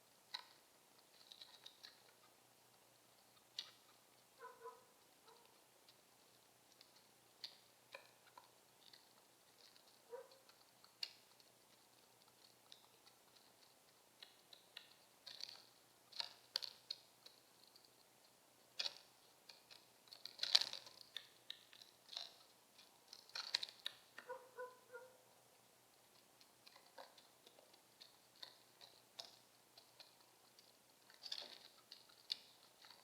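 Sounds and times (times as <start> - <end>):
doves clicking and rustling: 0.0 - 33.0.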